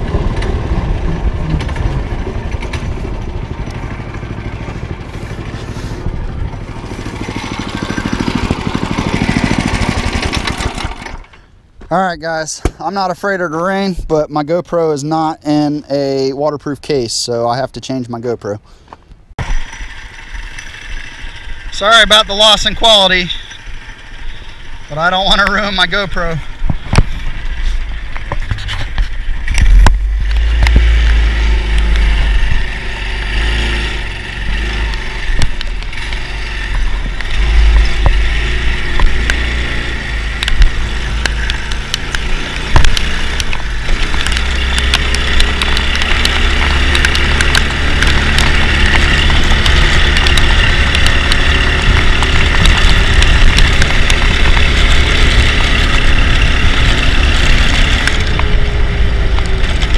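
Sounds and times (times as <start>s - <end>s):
go-kart engine driving: 0.0s - 11.6s, 19.4s - 59.9s
road noise: 0.0s - 59.9s.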